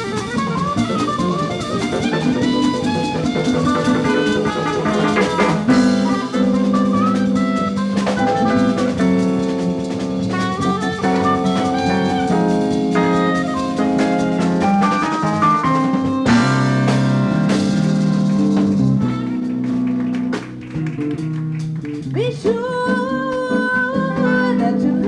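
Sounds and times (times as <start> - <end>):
drum kit with cymbals: 0.0 - 22.8
jazz band playing: 0.0 - 25.0.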